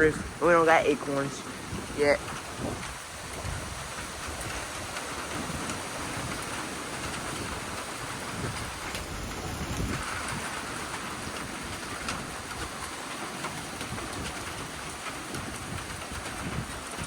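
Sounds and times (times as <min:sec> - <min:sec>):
rain drops ticking: 0:00.0 - 0:17.0
steady rain: 0:00.0 - 0:17.0
wind gusting on microphone: 0:00.0 - 0:17.0.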